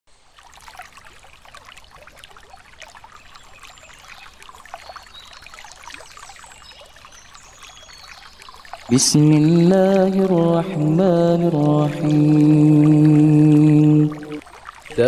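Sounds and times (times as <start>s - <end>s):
stream trickling over stones: 0.1s - 15.0s.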